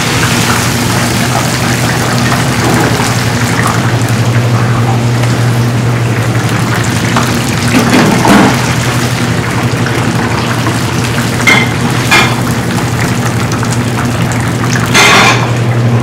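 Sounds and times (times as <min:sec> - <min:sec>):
food sizzling in deep fryer: 0:00.0 - 0:16.0.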